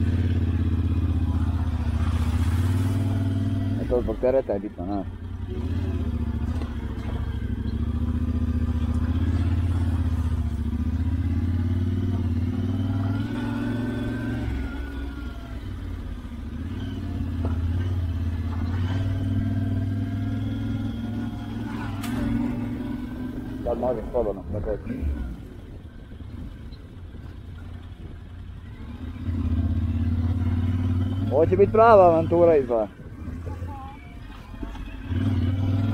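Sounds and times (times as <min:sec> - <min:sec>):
motorcycle engine at low revs: 0:00.0 - 0:35.9.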